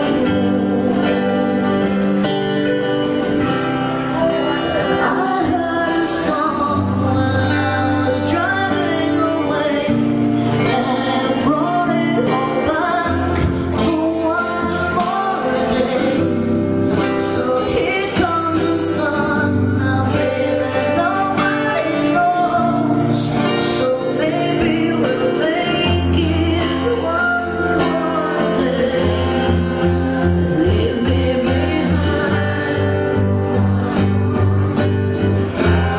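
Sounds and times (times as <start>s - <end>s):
strummed acoustic guitar: 0.0s - 35.9s
woman singing: 0.0s - 35.9s.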